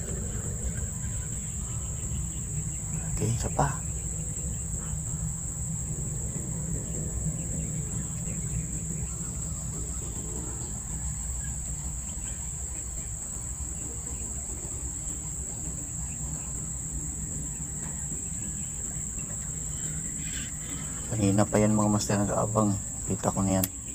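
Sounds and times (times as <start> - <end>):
crickets chirping: 0.0 - 23.9
low rumble: 0.0 - 23.9.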